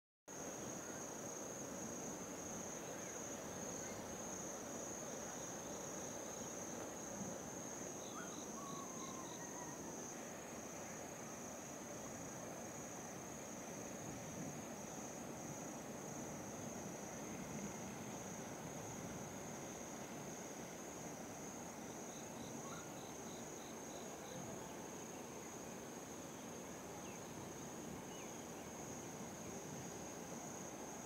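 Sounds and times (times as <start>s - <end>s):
low outdoor hiss: 0.3s - 31.0s
insects trilling: 0.4s - 31.0s.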